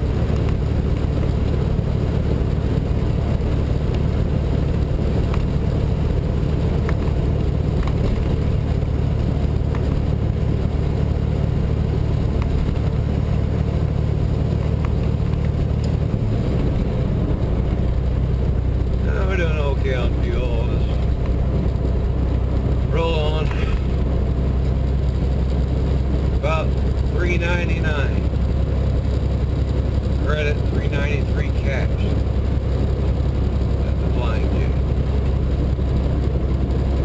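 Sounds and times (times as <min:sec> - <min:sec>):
road noise: 0:00.0 - 0:37.0
truck diesel engine drone: 0:00.0 - 0:37.0.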